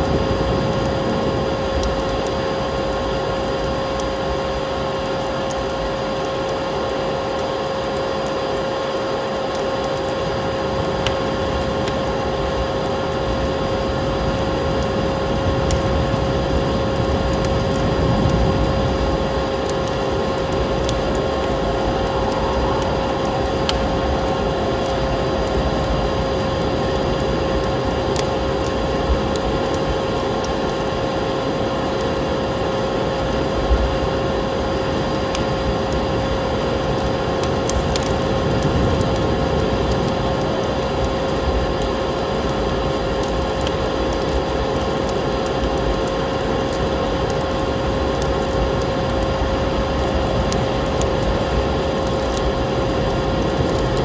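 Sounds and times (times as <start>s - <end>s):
constant tone: 0.0s - 54.0s
wood fire crackling: 0.0s - 54.0s.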